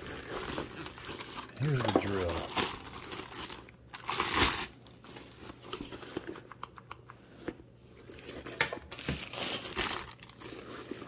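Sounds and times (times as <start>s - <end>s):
plastic bag crinkling: 0.0s - 6.2s, 8.0s - 11.0s.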